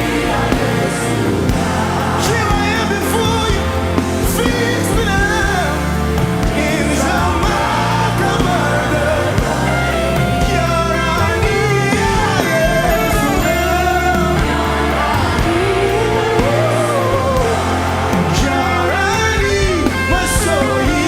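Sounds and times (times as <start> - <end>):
band playing slow worship song: 0.0 - 21.0.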